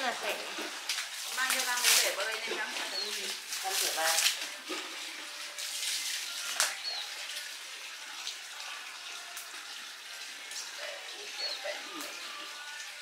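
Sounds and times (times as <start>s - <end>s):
running tap water: 0.0s - 13.0s.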